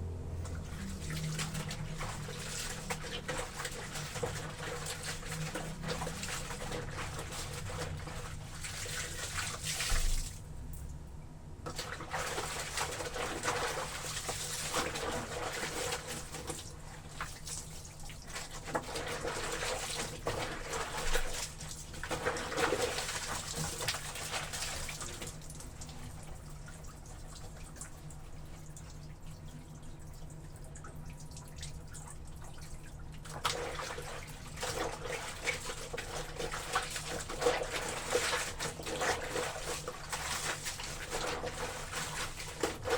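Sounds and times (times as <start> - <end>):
water splashes: 0.4 - 10.4, 11.7 - 42.9
laundry sloshing and squelching: 0.4 - 10.5, 11.7 - 42.9.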